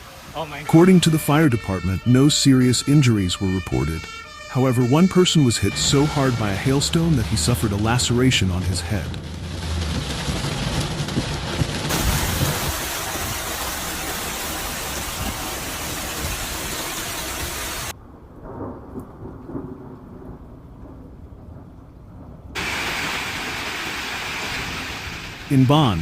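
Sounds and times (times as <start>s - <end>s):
heavy rain and hail: 0.0s - 1.8s, 4.9s - 20.4s, 22.5s - 26.0s.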